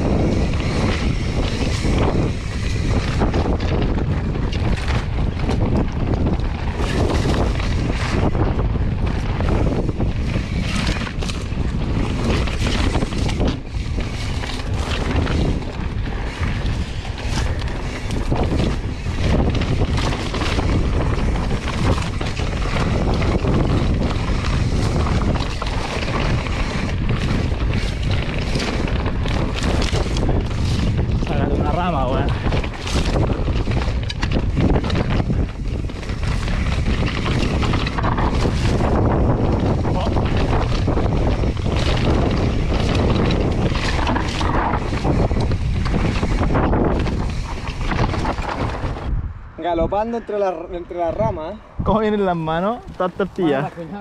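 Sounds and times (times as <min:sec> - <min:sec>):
tyres rolling over dirt: 0:00.0 - 0:49.1
bike rattling over bumps: 0:00.0 - 0:49.9, 0:50.5 - 0:54.0
wind buffeting microphone: 0:00.0 - 0:54.0.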